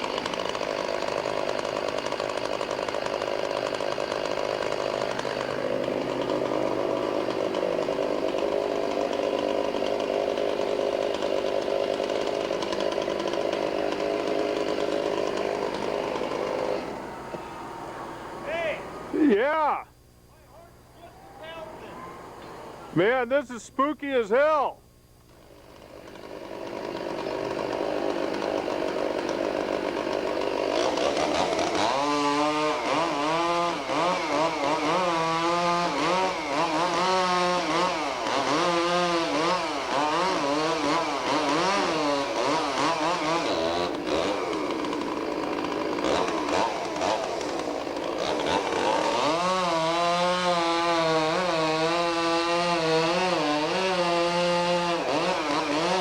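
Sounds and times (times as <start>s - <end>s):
chainsaw cutting into tree: 0.0s - 19.8s, 21.4s - 56.0s.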